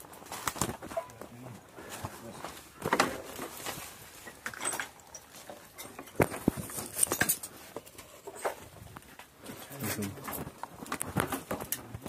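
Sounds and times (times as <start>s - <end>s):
footsteps on wood and debris: 0.0s - 12.0s.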